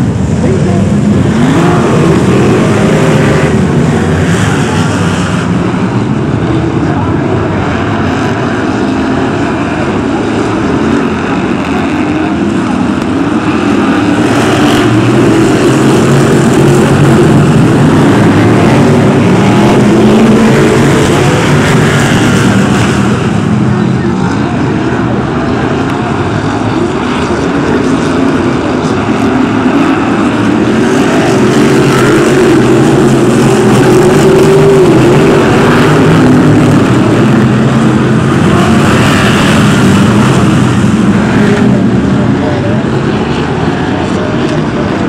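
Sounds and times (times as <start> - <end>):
racing car engines: 0.0 - 45.0.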